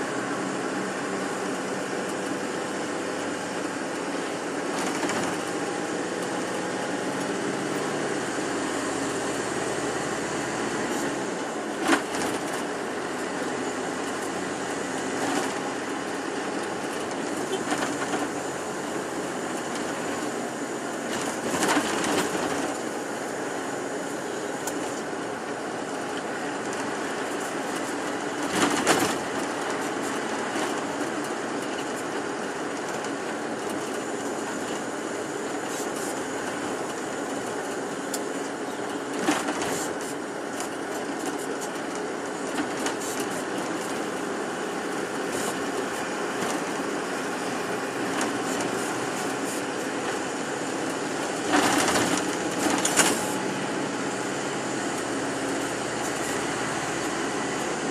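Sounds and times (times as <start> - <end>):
bus engine and road rumble: 0.0 - 57.9.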